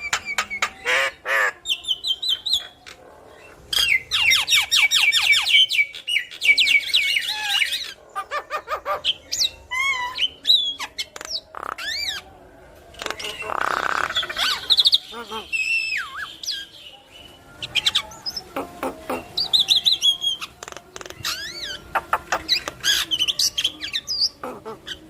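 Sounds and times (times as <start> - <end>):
myna bird singing: 0.0 - 25.0.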